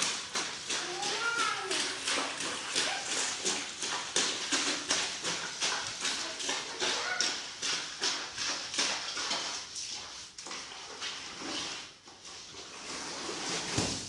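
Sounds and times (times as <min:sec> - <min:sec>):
swishing scrubbing of clothes: 0:00.0 - 0:14.0.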